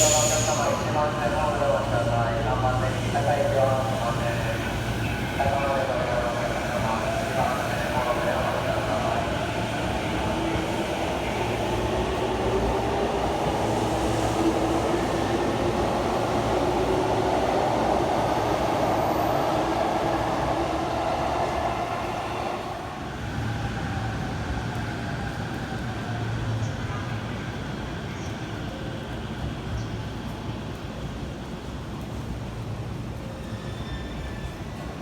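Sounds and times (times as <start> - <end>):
subway wheels rumbling: 0.0 - 35.0.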